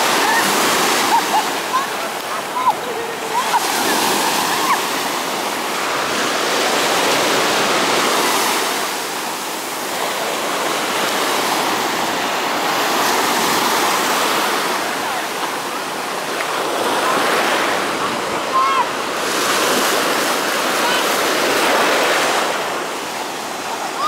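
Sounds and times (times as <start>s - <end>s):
sea waves breaking on beach: 0.0s - 24.0s.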